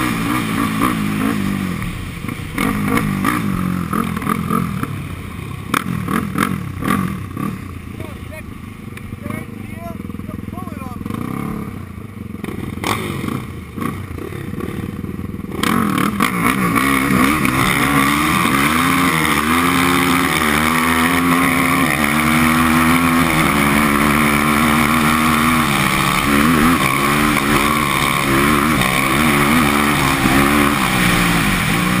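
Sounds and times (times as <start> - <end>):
quad bike engine revving: 0.0 - 32.0.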